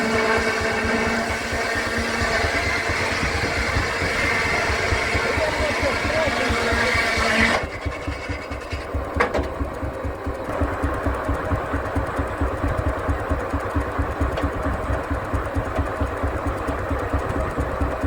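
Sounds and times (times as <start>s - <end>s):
steam traction engine exhaust beat: 0.0s - 18.0s.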